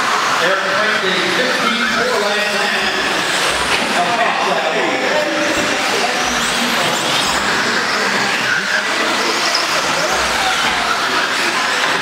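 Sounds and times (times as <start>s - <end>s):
rc car motors whining: 0.0s - 12.0s
steady noise: 0.0s - 12.0s.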